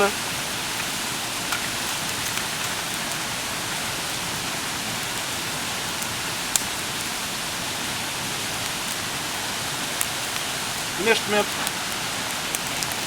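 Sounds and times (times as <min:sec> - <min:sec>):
campfire hissing: 0:00.0 - 0:13.0.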